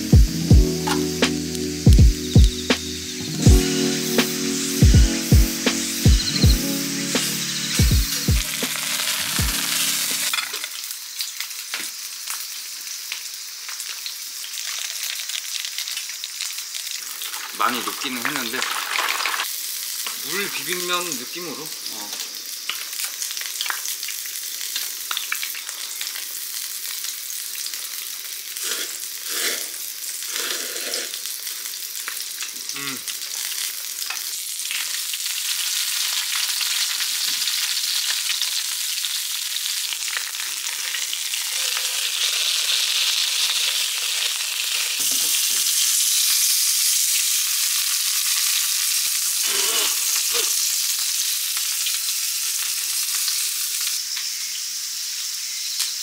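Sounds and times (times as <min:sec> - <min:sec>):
meat sizzling in a frying pan: 0:04.3 - 0:56.0.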